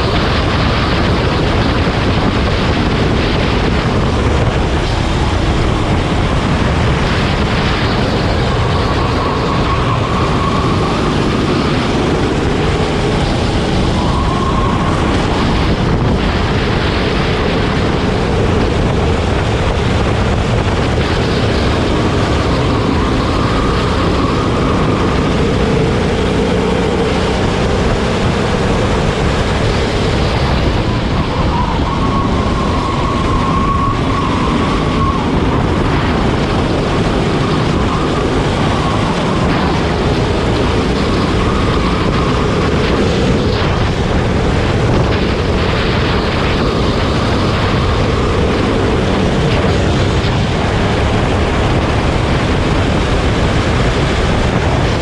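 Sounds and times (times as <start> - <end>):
kart engine revving: 0.0 - 55.0
wind and rolling noise: 0.0 - 55.0.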